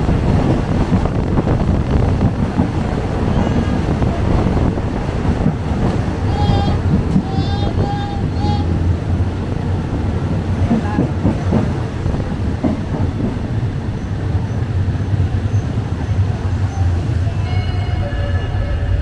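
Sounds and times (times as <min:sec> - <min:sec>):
passenger train rumble: 0:00.0 - 0:19.0.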